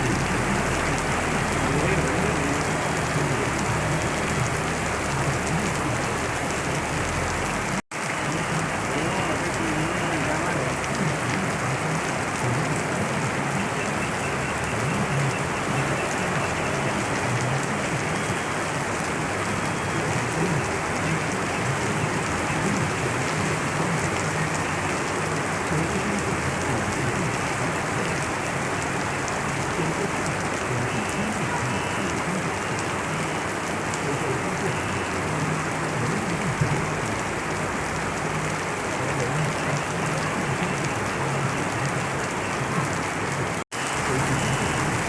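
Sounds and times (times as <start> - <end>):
heavy rain: 0.0 - 45.0.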